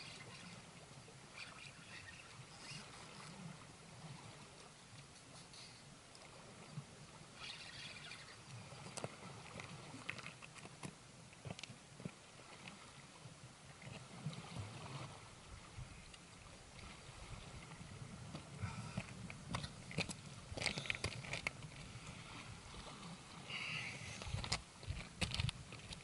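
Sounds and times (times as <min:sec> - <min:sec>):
water lapping at rocky shore: 0:00.0 - 0:26.0.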